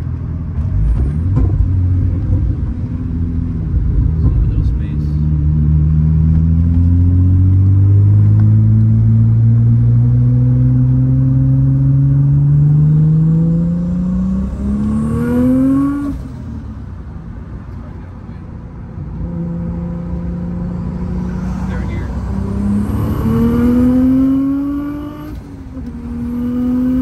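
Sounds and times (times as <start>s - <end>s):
car engine revving under load: 0.0s - 27.0s.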